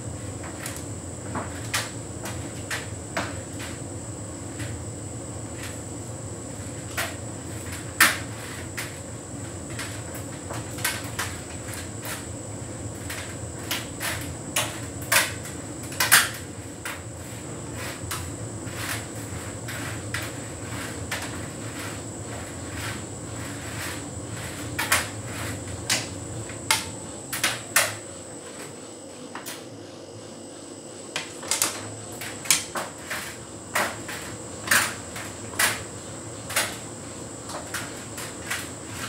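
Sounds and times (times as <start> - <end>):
tumble dryer humming: 0.0 - 39.0.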